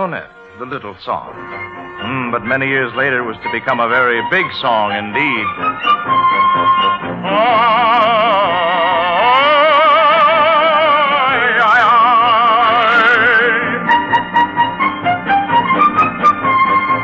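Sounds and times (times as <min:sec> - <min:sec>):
operatic singing with vibrato: 0:00.0 - 0:14.3
orchestra playing: 0:00.0 - 0:17.0.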